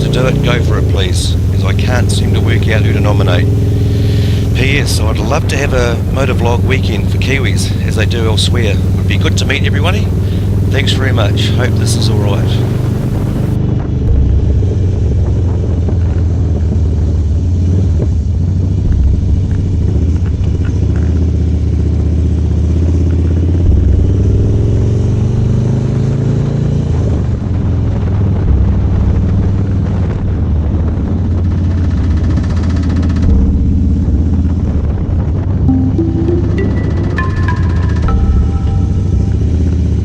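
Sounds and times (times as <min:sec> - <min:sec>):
motorcycle engine running: 0:00.0 - 0:35.5.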